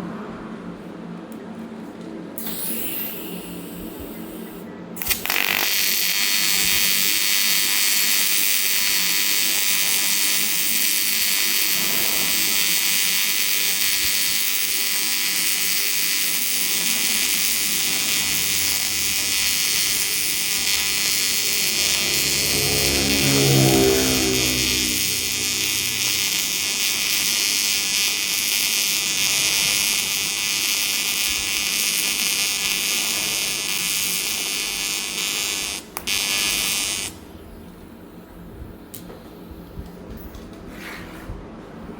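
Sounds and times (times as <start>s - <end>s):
welding arc buzzing: 2.4s - 37.4s.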